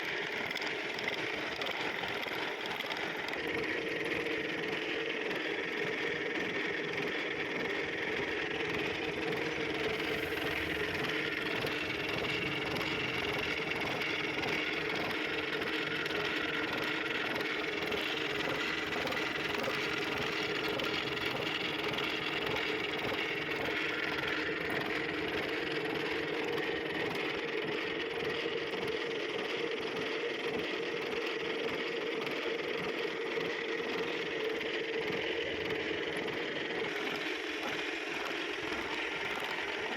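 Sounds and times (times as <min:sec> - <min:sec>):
machine tool humming and whining: 0:00.0 - 0:39.9.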